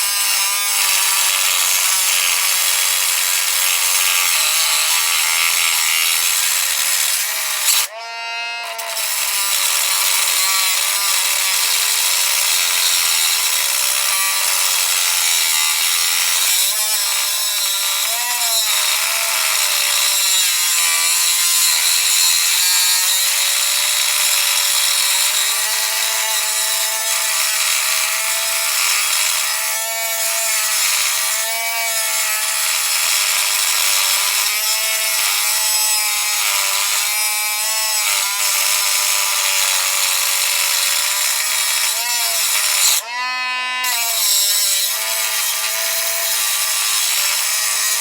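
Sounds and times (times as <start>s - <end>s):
power tool cutting metal: 0.0s - 48.0s.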